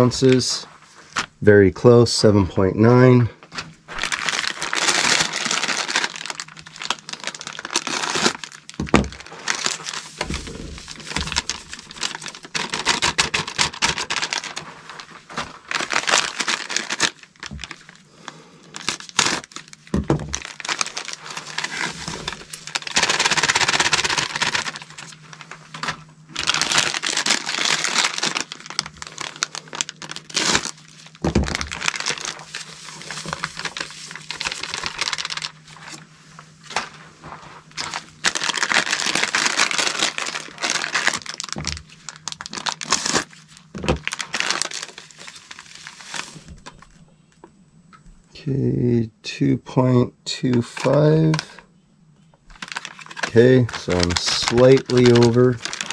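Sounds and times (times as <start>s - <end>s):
bags crinkling and rustling: 2.8s - 47.0s, 50.4s - 51.6s, 52.5s - 55.9s.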